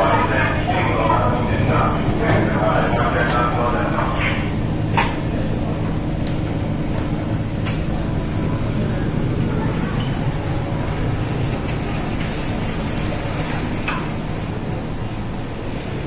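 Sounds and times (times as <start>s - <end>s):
low even hum: 0.0s - 16.0s
train wheels rumbling: 0.0s - 16.0s.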